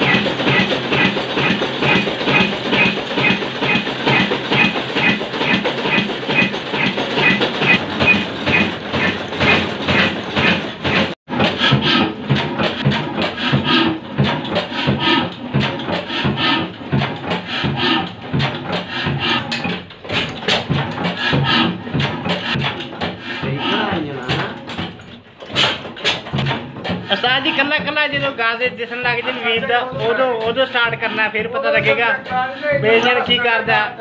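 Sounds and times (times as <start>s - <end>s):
oil engine knocking: 0.0s - 34.0s.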